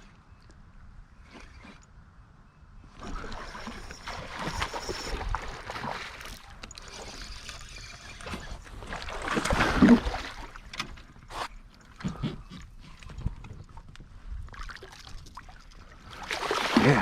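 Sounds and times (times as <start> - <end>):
water splashing against kayak: 3.0 - 17.0.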